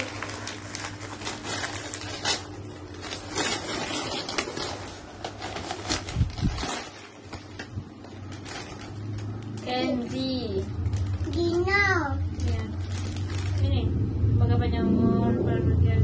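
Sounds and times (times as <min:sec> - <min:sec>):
wrapping paper crackling and tearing: 0:00.0 - 0:13.9.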